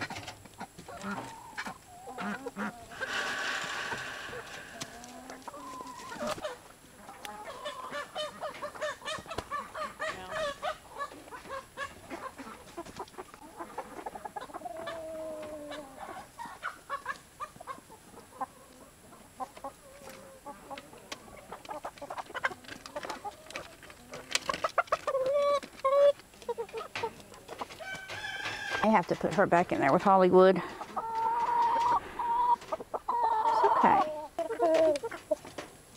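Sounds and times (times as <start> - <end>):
chickens clucking and calling: 0.0 - 35.9.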